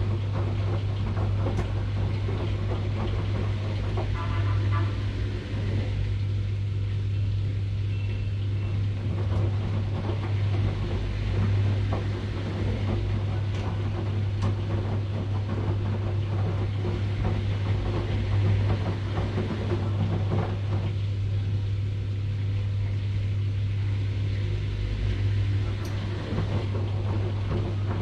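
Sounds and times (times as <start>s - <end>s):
washing machine running: 0.0s - 28.0s.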